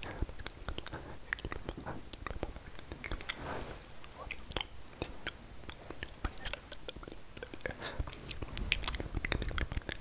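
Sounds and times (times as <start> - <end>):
wet lip and tongue clicks: 0.0 - 3.4, 4.0 - 10.0
soft breathy hiss: 0.0 - 10.0.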